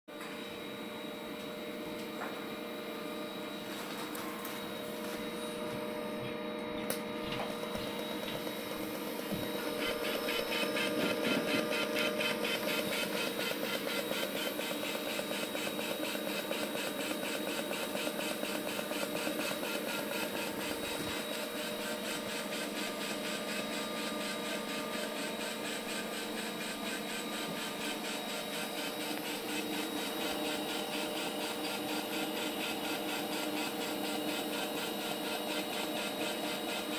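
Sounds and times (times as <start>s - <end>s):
welding equipment hum: 0.4s - 36.9s
welding arc buzzing: 7.3s - 36.9s.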